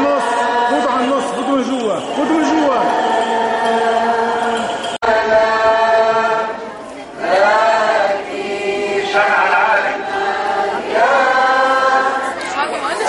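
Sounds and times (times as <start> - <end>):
crowd singing a hymn: 0.0 - 13.0.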